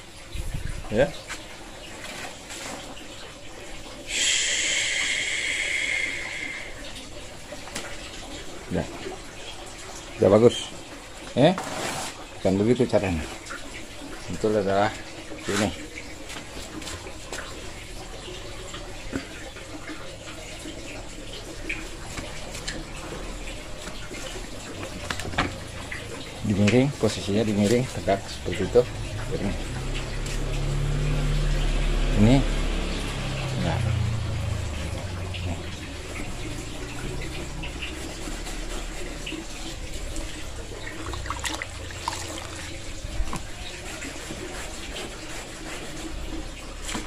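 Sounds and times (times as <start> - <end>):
water running and splashing: 0.0 - 47.0.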